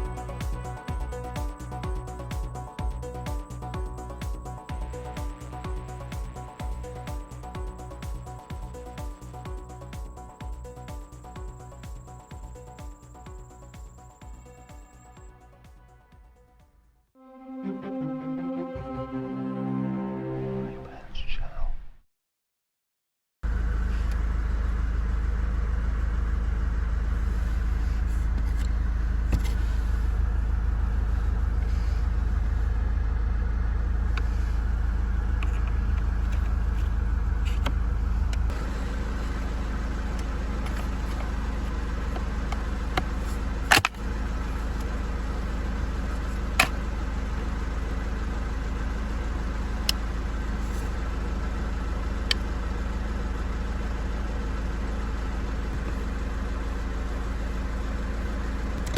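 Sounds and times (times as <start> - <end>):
car engine idling: 0.0 - 15.6, 23.5 - 58.9.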